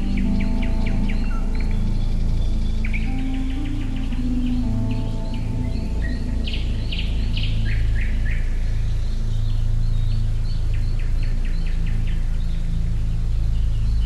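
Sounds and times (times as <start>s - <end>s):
low background noise: 0.0s - 14.0s
songbirds chirping: 0.0s - 14.0s.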